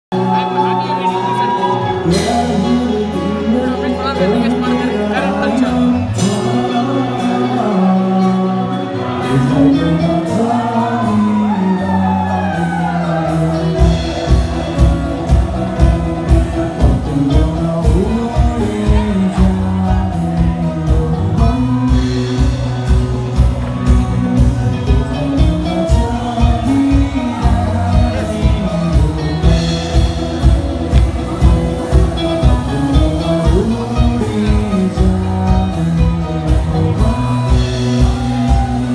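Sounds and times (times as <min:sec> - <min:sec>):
bass guitar: 0:00.0 - 0:38.9
electric guitars: 0:00.1 - 0:38.9
live rock band playing: 0:00.1 - 0:38.9
person singing: 0:00.1 - 0:38.9
steady drum beat: 0:00.1 - 0:38.9.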